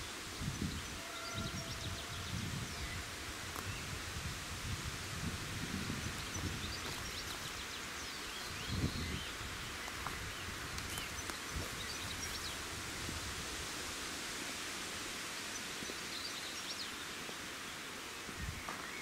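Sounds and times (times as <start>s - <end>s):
wind in grass and trees: 0.0s - 19.0s.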